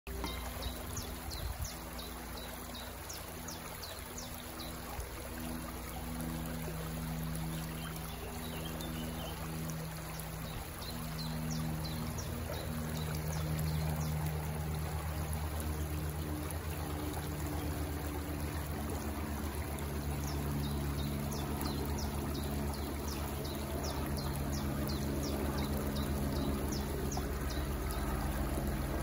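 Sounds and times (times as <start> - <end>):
low steady hum: 0.1 - 29.0
water pouring and trickling: 0.1 - 29.0.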